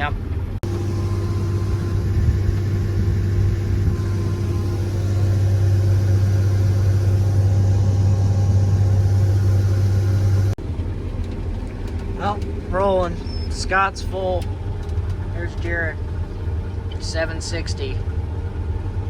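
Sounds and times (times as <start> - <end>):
combine harvester engine drone: 0.0 - 19.0
steady machine whine: 0.3 - 19.0.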